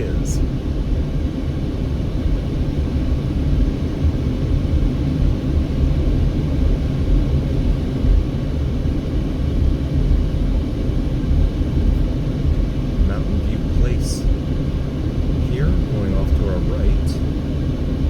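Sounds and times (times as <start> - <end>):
car engine rumble: 0.0 - 18.0.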